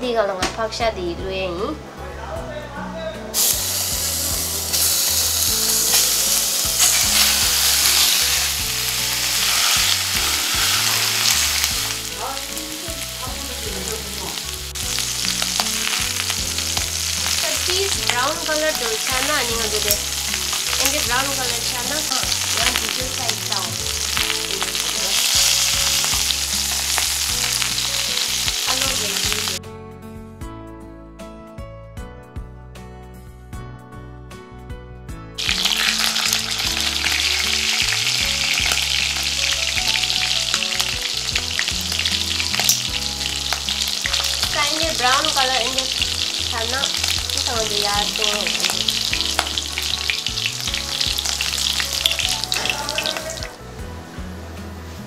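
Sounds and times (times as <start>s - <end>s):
pork sizzling in fat: 3.4s - 29.6s, 35.4s - 53.6s.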